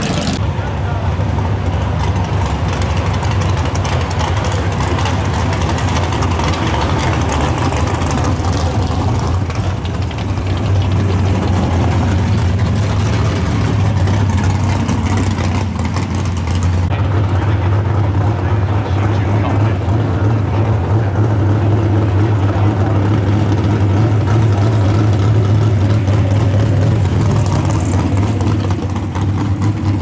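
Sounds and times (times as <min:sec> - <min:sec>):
race car engines idling: 0:00.0 - 0:30.0.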